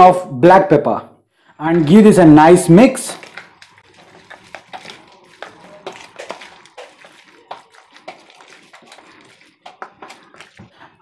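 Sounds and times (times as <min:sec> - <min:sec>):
wet squelching of spoon mixing: 0:01.4 - 0:11.0.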